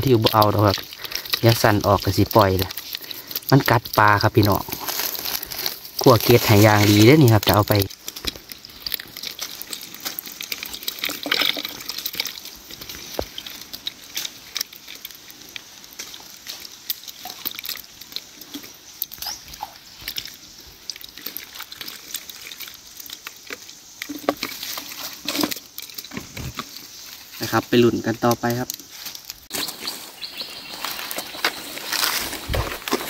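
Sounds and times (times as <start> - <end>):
water splashing in a bucket: 0.0 - 29.5.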